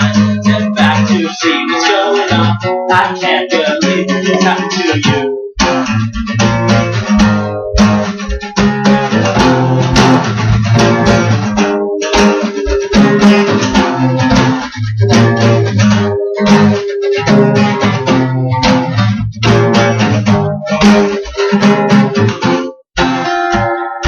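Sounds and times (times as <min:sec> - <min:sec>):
guitar strumming chords: 0:00.0 - 0:24.0.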